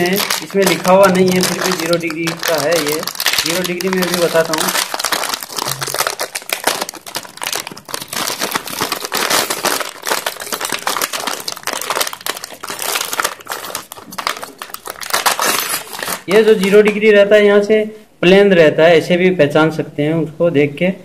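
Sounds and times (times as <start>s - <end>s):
plastic packet crinkling: 0.0s - 17.2s.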